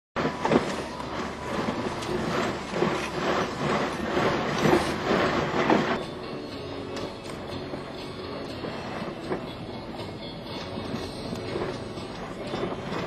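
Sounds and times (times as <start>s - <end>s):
mechanical rumble: 0.2s - 13.0s.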